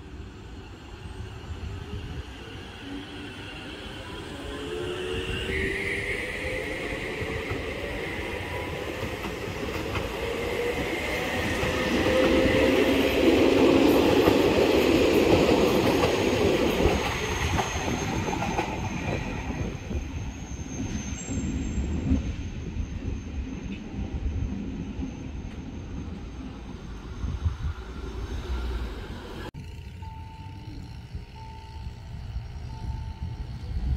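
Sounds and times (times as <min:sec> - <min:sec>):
train wheels rumbling on rails: 0:01.1 - 0:33.9.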